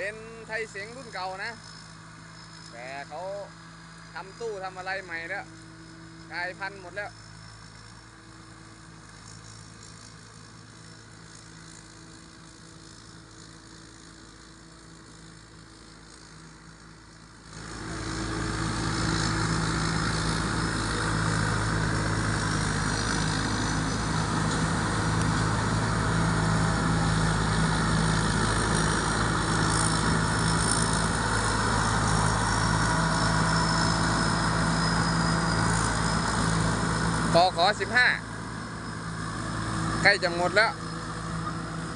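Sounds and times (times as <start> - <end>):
diesel engine running: 0.0 - 41.9
faint high whine: 0.0 - 41.9.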